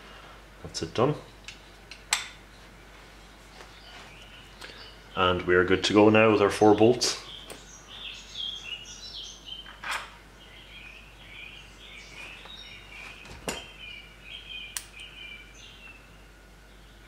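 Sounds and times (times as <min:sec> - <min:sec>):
birds chirping: 0:00.7 - 0:17.0.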